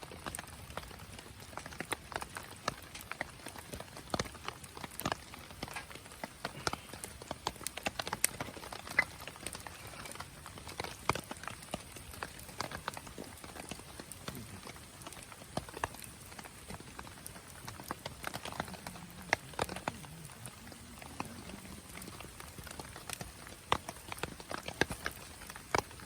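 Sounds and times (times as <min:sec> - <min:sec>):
faint steady hiss: 0:00.0 - 0:26.0
wood fire crackling: 0:00.0 - 0:26.0.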